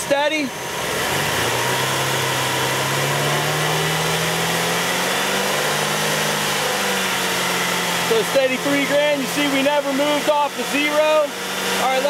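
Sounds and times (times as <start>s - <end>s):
car engine revving steadily: 0.0s - 12.0s.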